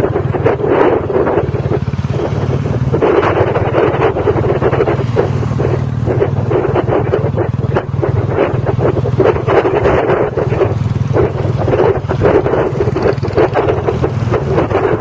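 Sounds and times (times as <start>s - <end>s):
motorcycle engine running: 0.0s - 15.0s
wind gusting over microphone: 0.0s - 15.0s.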